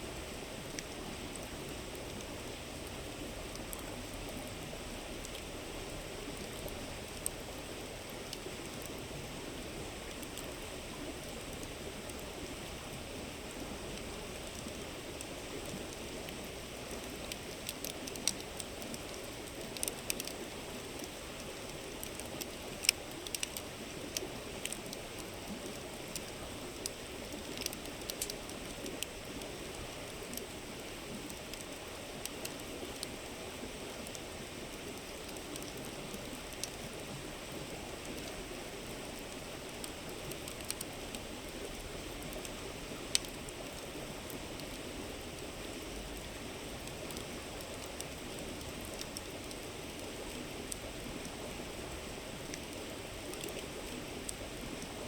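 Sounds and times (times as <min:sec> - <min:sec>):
wood fire crackling with pops: 0:10.1 - 0:55.0.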